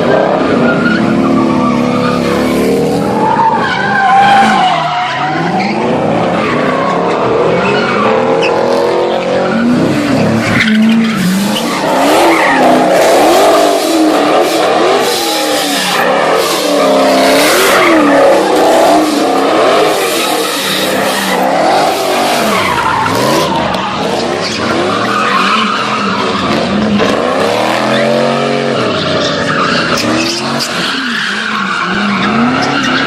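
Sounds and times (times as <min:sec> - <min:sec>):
car engines revving: 0:00.0 - 0:33.0
tyres squealing: 0:00.5 - 0:33.0.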